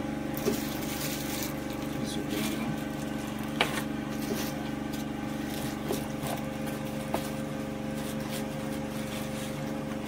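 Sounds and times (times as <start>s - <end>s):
generator engine running: 0.0s - 10.0s
plastic packaging rustling: 0.4s - 10.0s.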